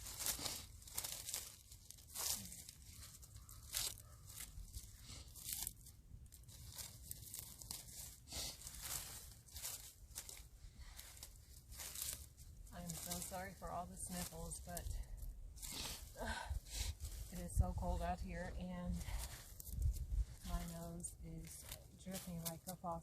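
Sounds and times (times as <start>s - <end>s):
rake scraping dry leaves: 0.0s - 23.0s.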